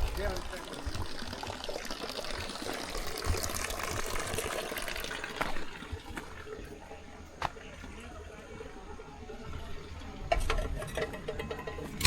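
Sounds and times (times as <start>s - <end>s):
running water splashing: 0.0s - 10.2s.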